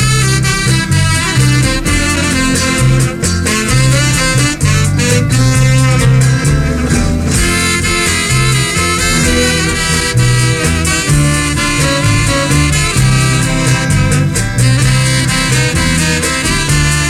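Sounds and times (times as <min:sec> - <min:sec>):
upbeat swing music with horns: 0:00.0 - 0:17.0.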